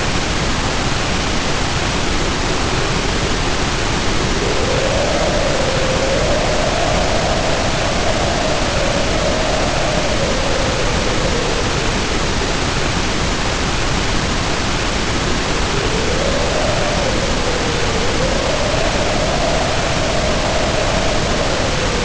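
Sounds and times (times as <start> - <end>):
pouring rain: 0.0 - 22.0
storm wind howling: 0.0 - 22.0.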